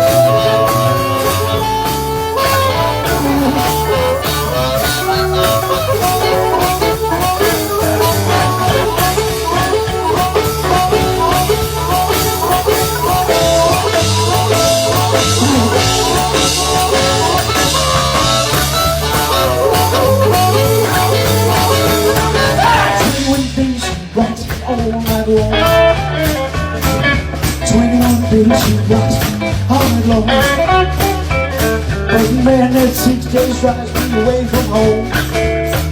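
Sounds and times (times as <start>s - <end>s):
blues band playing: 0.0s - 35.9s.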